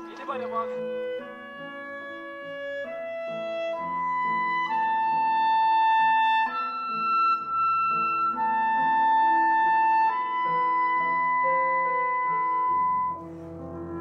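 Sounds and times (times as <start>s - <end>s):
clarinet slow melody: 0.0s - 14.0s
piano: 0.0s - 14.0s.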